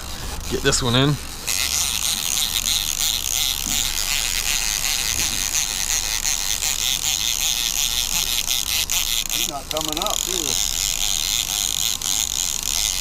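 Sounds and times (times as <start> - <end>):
fishing reel clicking: 0.0 - 13.0
steady low hum: 0.0 - 13.0.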